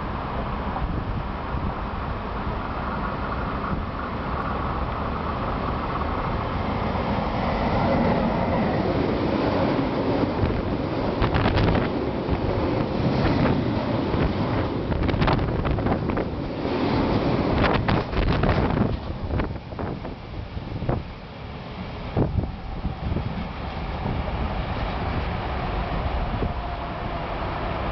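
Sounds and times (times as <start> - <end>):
freight train rumbling: 0.0 - 27.9
wind buffeting microphone: 0.7 - 27.9.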